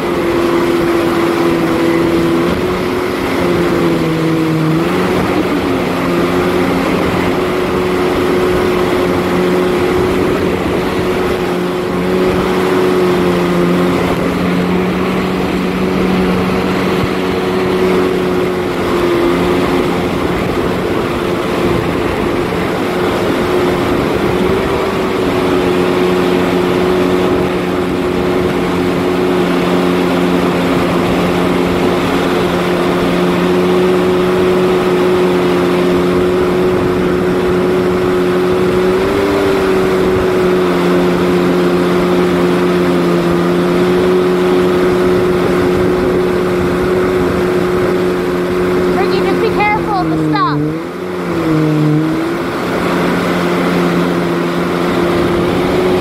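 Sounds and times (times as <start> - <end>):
jet ski engine running: 0.0 - 56.0
water rushing in wake: 0.0 - 56.0.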